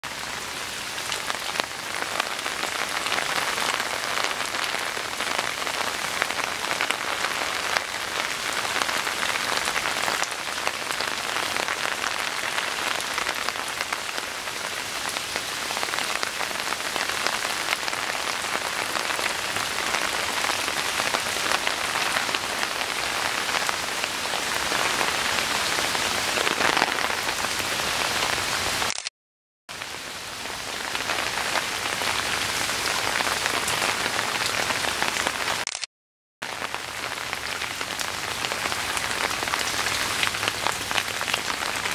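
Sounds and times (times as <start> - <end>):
rain falling: 0.0 - 29.0, 29.7 - 35.8, 36.4 - 41.9.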